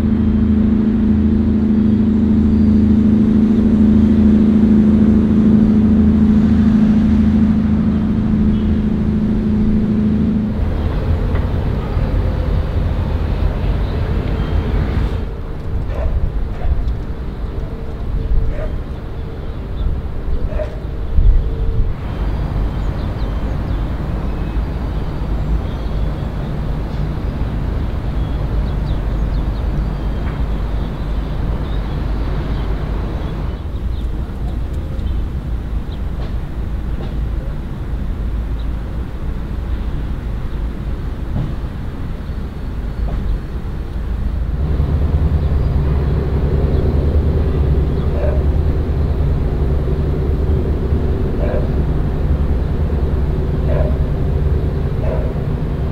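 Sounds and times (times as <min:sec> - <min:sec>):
low outdoor rumble: 0:00.0 - 0:55.9.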